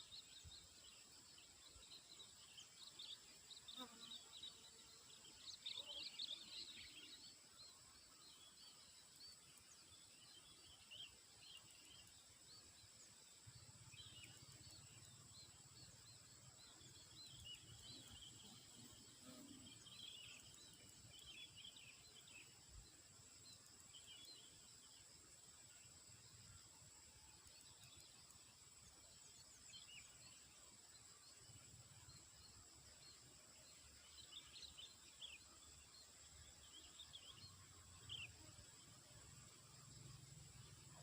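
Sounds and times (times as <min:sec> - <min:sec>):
small birds chirping: 0:00.0 - 0:26.5, 0:27.3 - 0:41.0.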